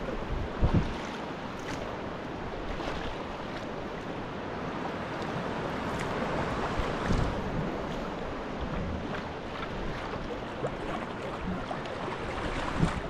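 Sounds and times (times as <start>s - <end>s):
wind buffeting microphone: 0.0s - 3.2s, 5.4s - 13.0s
water splashing around kayak hull: 0.0s - 13.0s.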